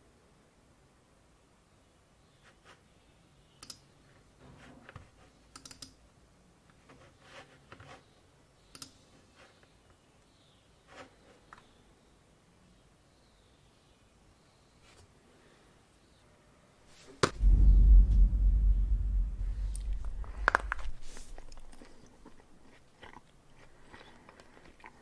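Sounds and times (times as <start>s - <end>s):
faint room hiss: 0.0s - 23.9s.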